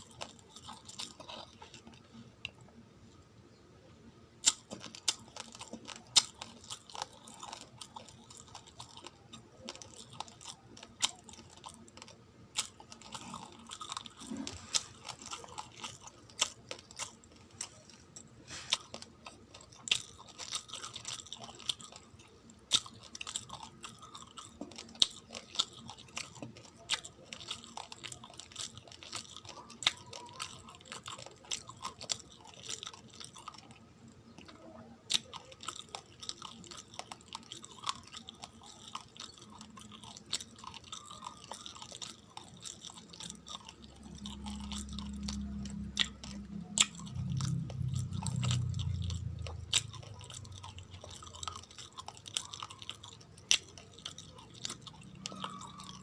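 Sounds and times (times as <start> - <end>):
chewing crunchy rice grains: 0.0 - 3.2, 4.4 - 56.0.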